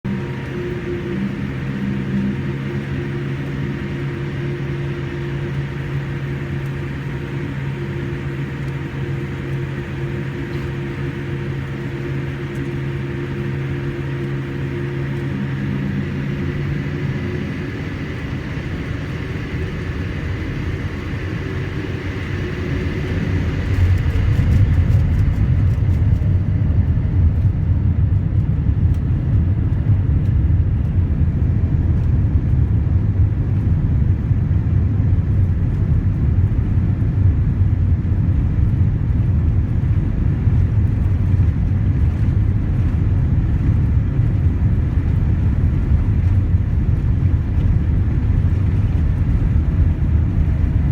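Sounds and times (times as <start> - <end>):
jet engines rumbling in cabin: 0.0 - 50.9.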